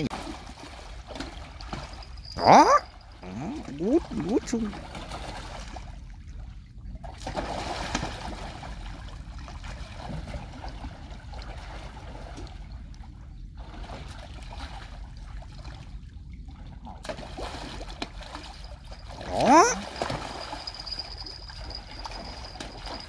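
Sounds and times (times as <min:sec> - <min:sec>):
water trickling and lapping: 0:00.0 - 0:23.0.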